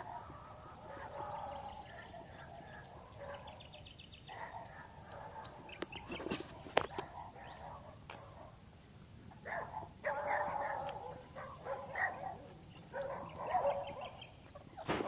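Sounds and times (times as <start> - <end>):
birds chirping and calling: 0.0 - 8.6, 9.4 - 14.9.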